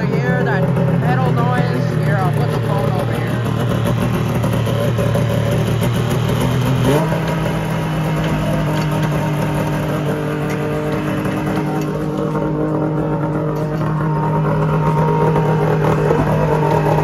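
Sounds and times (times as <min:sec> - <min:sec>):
snowmobile engine running: 0:00.0 - 0:17.0.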